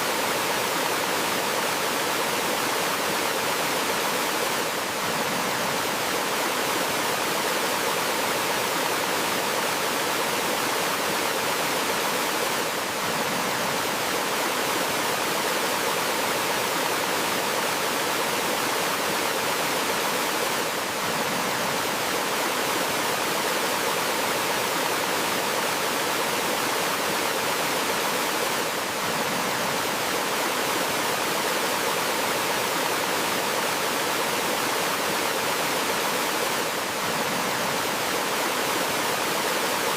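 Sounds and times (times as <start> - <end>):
waterfall and stream flowing: 0.0 - 39.9.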